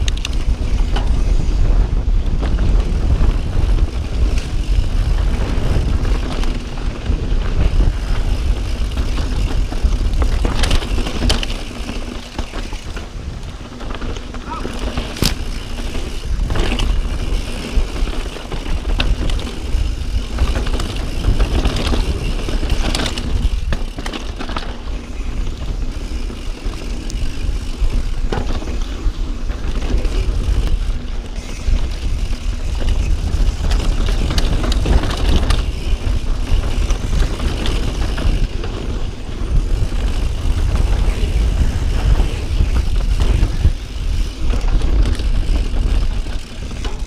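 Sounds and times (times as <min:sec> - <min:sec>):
bike knocks and clatters: 0:00.0 - 0:47.0
bike tyres crunching over dirt: 0:00.0 - 0:47.0.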